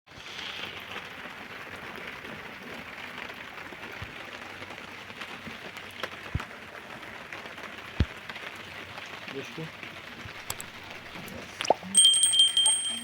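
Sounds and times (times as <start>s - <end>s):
steady rain: 0.1s - 13.0s.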